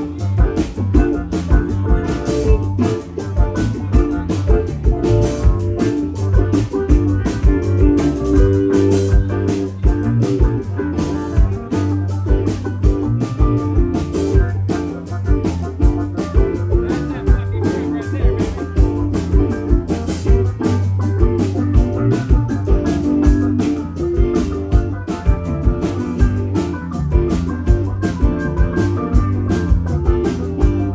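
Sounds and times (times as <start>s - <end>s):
bass guitar: 0.0s - 30.9s
drum kit beat: 0.0s - 30.9s
electric guitar lead: 0.0s - 30.9s.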